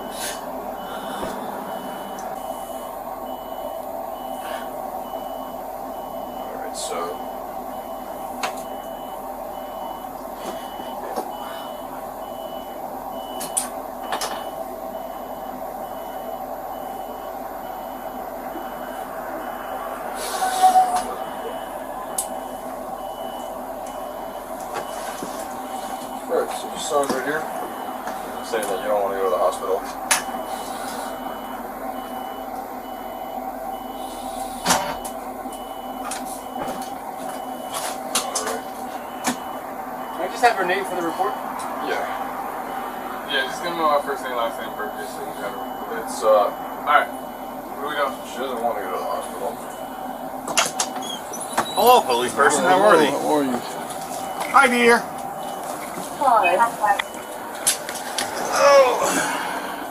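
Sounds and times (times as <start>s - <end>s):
engine hum: 0.0s - 59.9s
vehicle warning beeper: 0.0s - 59.9s.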